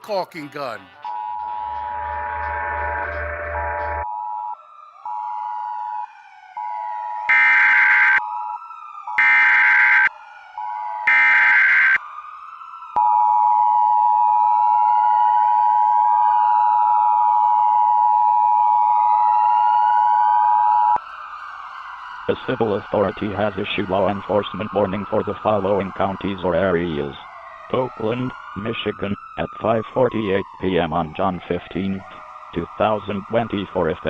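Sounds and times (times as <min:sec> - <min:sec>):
wailing sirens: 0:00.1 - 0:34.0.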